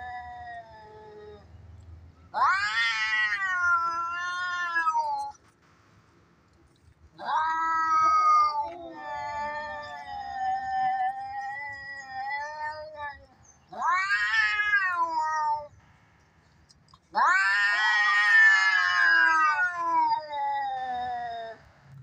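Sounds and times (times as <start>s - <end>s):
cats yowling: 0.0s - 1.6s, 2.3s - 5.4s, 7.2s - 15.8s, 17.1s - 21.7s.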